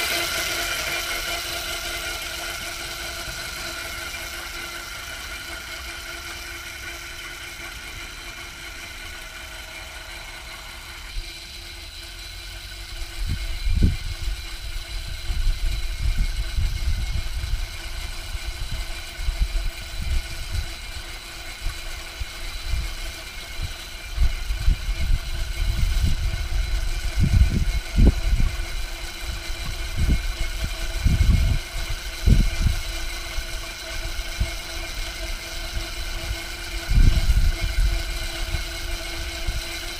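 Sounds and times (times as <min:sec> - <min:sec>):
electric cultivator motor whine: 0:00.0 - 0:39.9.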